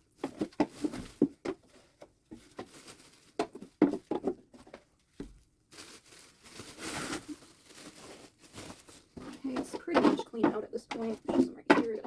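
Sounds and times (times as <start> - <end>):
bedding rustling and clattering: 0.0 - 12.0.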